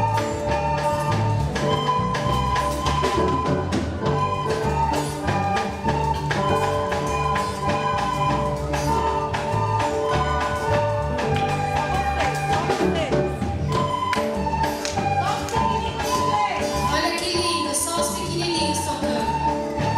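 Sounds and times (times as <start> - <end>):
upbeat instrumental music: 0.0 - 19.9.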